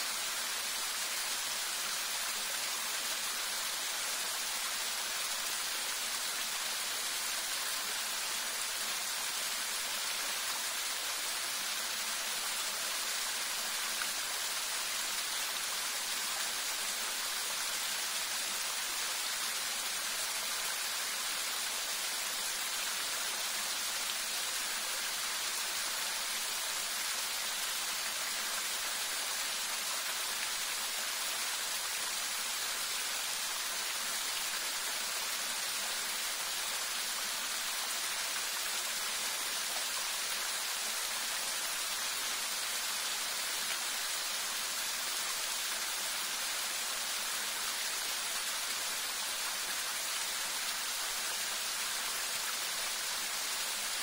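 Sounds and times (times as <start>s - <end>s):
small waterfall splashing: 0.0s - 54.0s.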